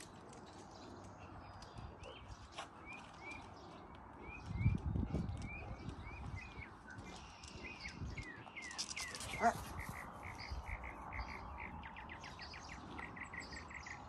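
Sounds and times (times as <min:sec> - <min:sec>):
songbirds chirping and calling: 0:00.0 - 0:14.0.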